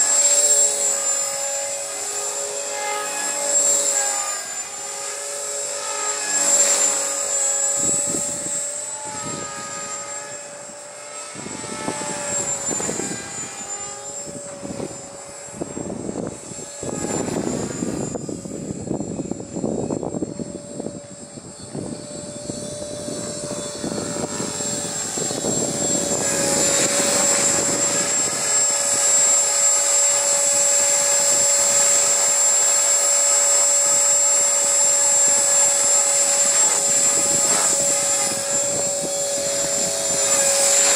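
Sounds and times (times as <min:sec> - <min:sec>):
high thin motor whine: 0:00.0 - 0:40.9
rc helicopter rotor hum: 0:00.0 - 0:40.9.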